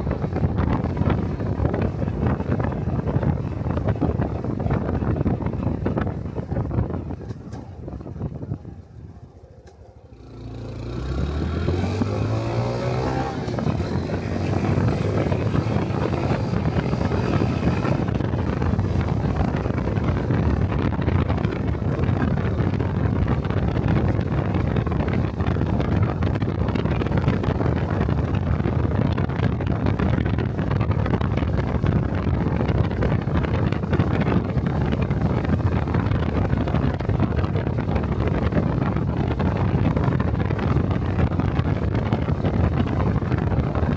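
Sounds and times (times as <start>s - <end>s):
motorcycle engine: 0.0s - 43.9s
wind noise on microphone: 0.0s - 43.9s.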